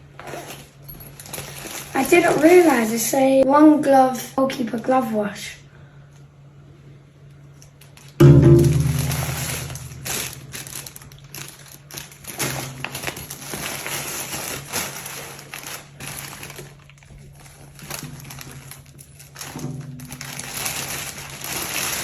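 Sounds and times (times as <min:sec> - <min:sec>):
packaging crinkling and rustling: 0:00.0 - 0:03.4, 0:07.6 - 0:22.0.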